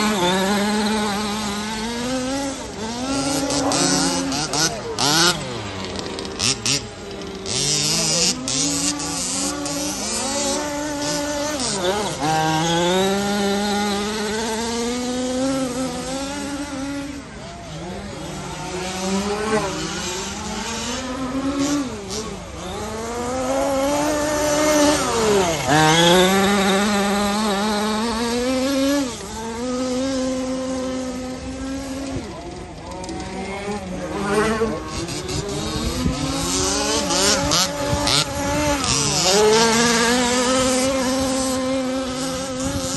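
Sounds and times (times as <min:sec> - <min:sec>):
rc car motors revving: 0:00.0 - 0:42.9.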